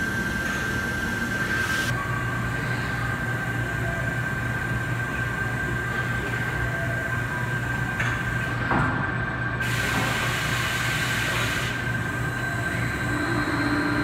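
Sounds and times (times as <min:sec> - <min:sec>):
high machine whine: 0:00.0 - 0:14.0
machinery low hum: 0:00.0 - 0:14.0.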